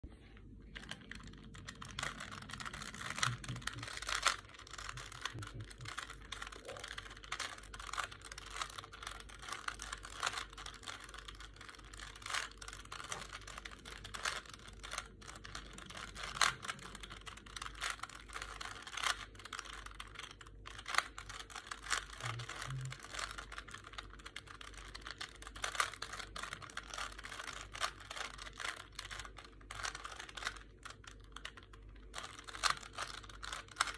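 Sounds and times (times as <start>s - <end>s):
puzzle cube plastic clicks: 0.7s - 33.9s.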